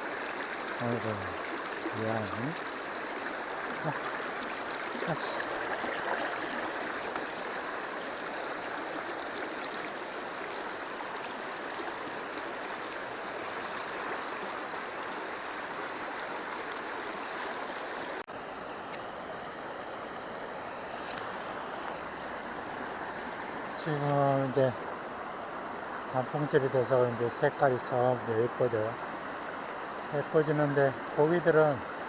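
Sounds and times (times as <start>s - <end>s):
stream water flowing: 0.0s - 32.0s.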